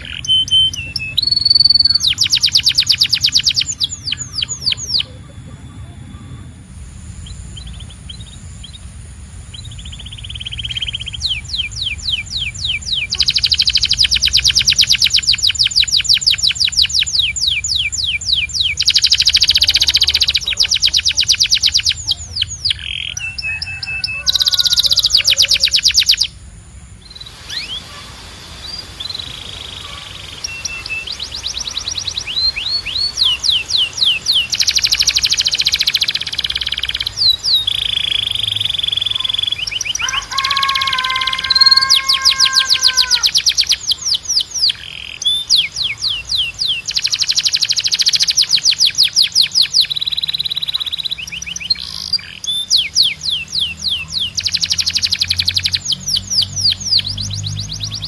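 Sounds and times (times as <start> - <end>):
canary singing fast trills: 0.0 - 58.0.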